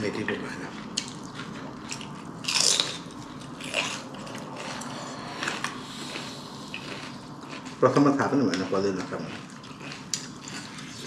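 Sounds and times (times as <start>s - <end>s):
person biting and chewing food: 0.8s - 11.0s.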